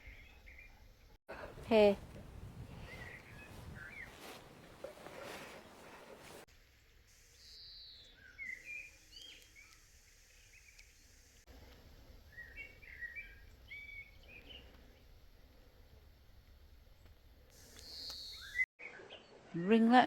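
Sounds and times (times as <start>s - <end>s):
faint bird chirping: 0.0s - 6.5s, 7.1s - 16.0s, 16.9s - 20.0s.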